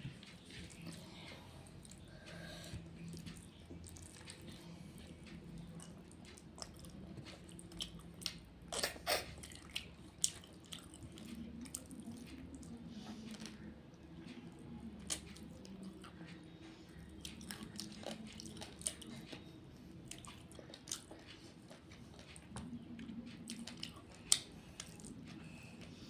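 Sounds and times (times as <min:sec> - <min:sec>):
chewing: 0:00.1 - 0:26.0.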